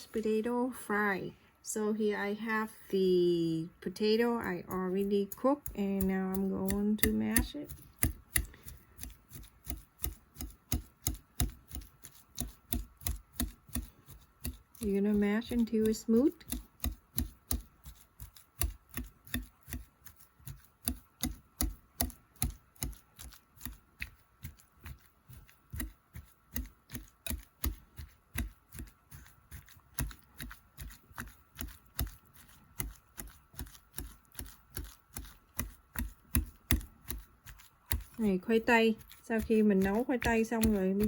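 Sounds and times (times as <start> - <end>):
whisk mashing potatoes in bowl: 3.1 - 41.0.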